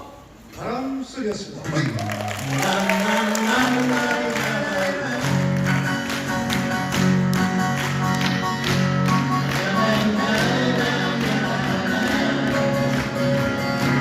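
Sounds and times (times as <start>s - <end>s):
acoustic guitars strumming: 2.6s - 14.0s.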